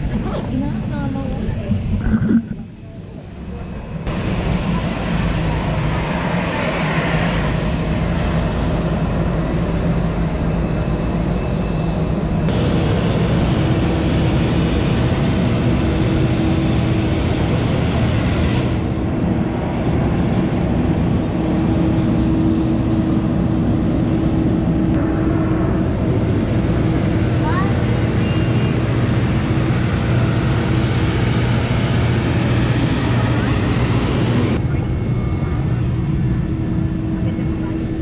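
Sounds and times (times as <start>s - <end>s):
jet engine roar: 0.0s - 38.0s.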